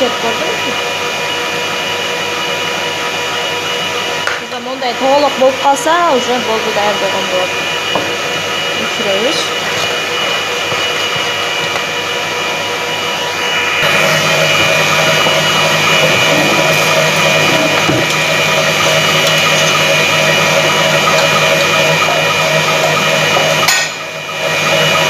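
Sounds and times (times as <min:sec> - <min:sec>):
electric stand mixer running: 0:00.0 - 0:25.0.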